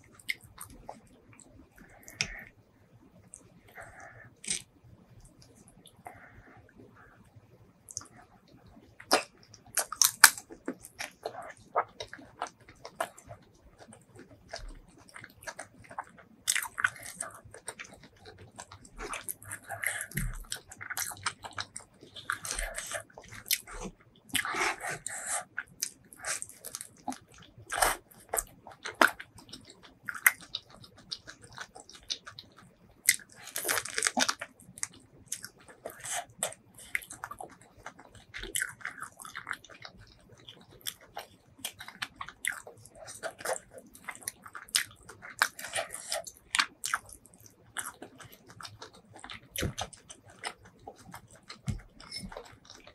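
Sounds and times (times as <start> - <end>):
close-miked chewing and crunching: 0.0 - 52.9.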